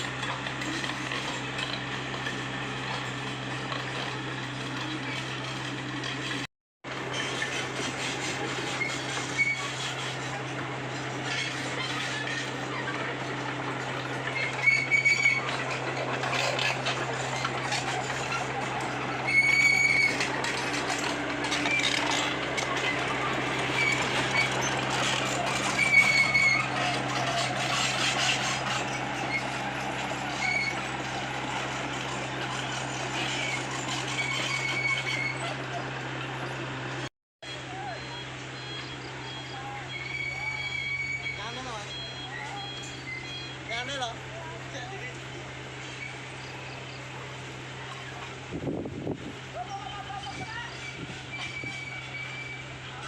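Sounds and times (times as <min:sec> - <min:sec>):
excavator diesel engine running: 0:00.0 - 0:53.0
high-pitched machine squeals: 0:07.1 - 0:45.1, 0:45.8 - 0:48.4, 0:49.6 - 0:53.0.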